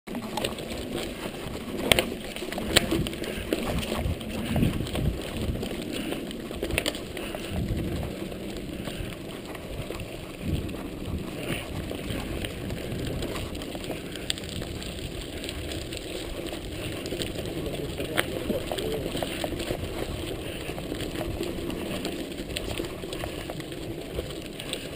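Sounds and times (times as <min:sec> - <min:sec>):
bike rattling: 0:00.1 - 0:24.9
bike tyres crunching on gravel: 0:00.1 - 0:24.9
wheels knocking on rocks: 0:00.1 - 0:24.9.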